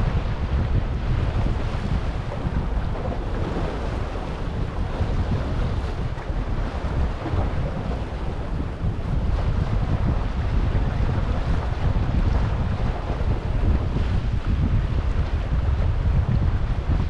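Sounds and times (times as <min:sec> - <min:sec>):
wind buffeting microphone: 0:00.0 - 0:17.0
small waves washing against rocks: 0:00.5 - 0:14.8.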